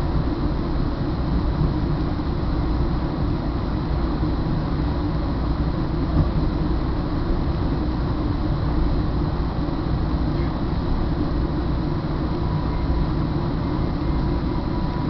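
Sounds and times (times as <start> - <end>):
faint steady hum: 0.0 - 15.0
train wheels rumbling on rail: 0.0 - 15.0.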